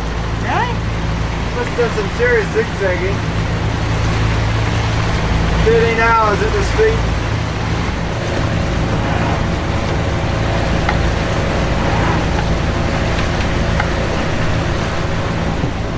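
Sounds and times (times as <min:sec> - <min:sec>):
heavy rain and wind: 0:00.0 - 0:15.9
low steady hum: 0:00.0 - 0:15.9.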